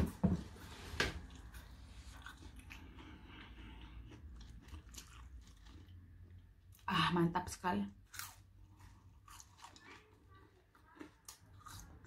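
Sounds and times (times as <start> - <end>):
person chewing fries: 1.1 - 6.8, 8.0 - 12.0.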